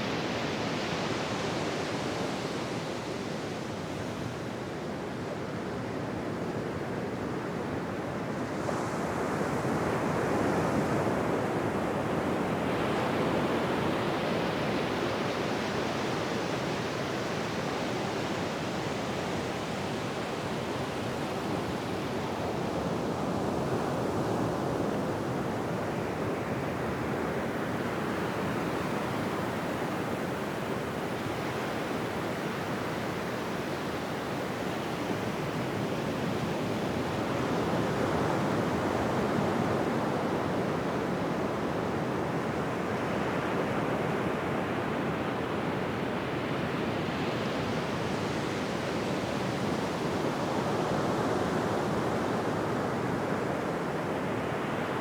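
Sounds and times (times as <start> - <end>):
ocean waves on a beach: 0.0 - 55.0.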